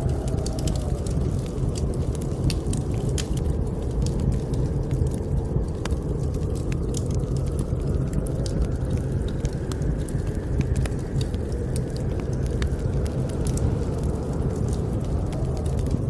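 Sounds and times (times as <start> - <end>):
blizzard wind rumble: 0.0 - 16.0
fire crackling and popping: 0.0 - 16.0.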